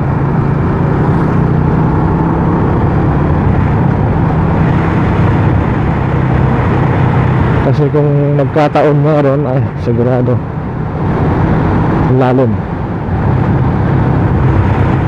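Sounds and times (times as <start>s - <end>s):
motorcycle engine cruising: 0.0s - 15.0s
wind rushing over microphone: 0.0s - 15.0s.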